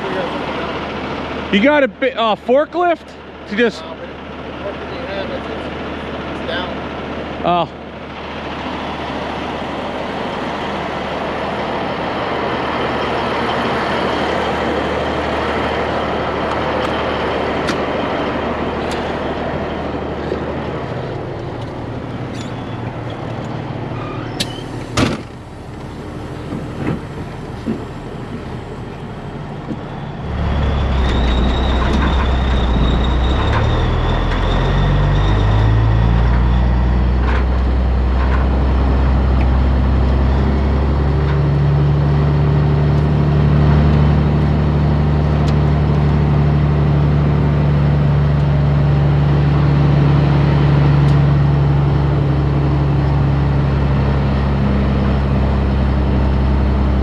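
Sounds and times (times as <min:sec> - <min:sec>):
diesel engine revving: 0:00.0 - 0:57.0
heavy diesel engines running: 0:00.0 - 0:57.0.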